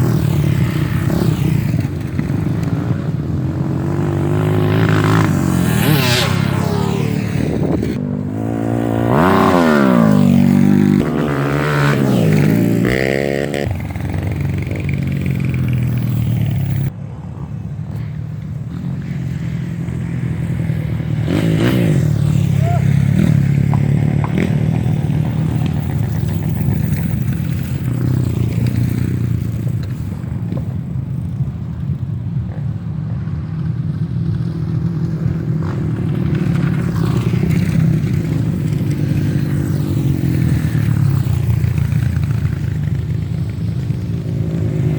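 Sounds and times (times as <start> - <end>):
off-road motorcycle engines revving: 0.0 - 44.9.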